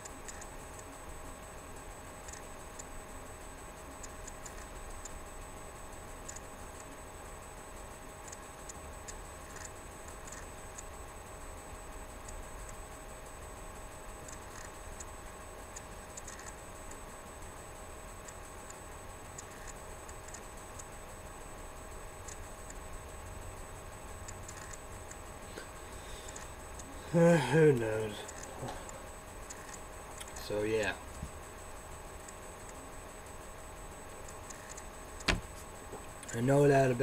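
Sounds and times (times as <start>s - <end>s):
faint ticking clicks: 0.0s - 7.1s, 7.8s - 36.9s
faint electrical whine: 0.0s - 37.0s.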